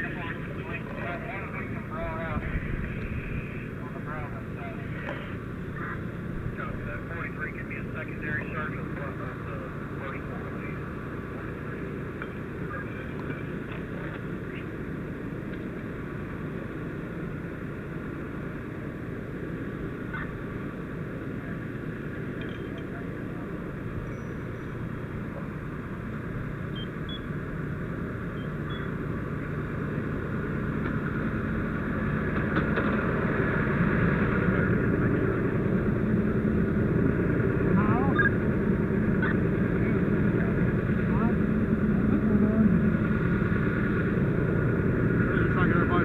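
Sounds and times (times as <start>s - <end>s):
vehicle engine rumbling: 0.0s - 46.0s.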